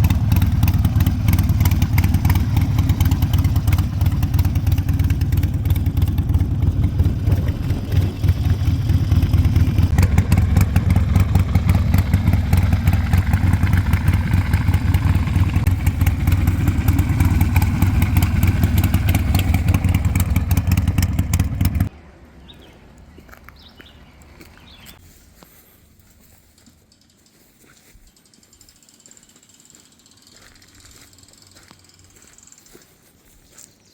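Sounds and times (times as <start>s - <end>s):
motorcycle engine running: 0.0s - 21.9s, 24.5s - 33.7s.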